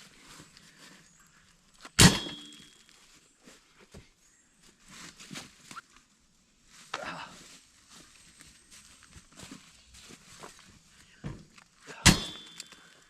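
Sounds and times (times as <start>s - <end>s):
shuffling and small knocks: 0.0s - 13.0s.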